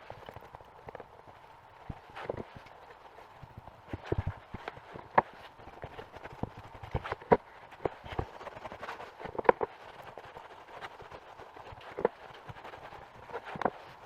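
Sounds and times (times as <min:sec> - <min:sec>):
soft rubbing on leather: 0:00.0 - 0:14.0.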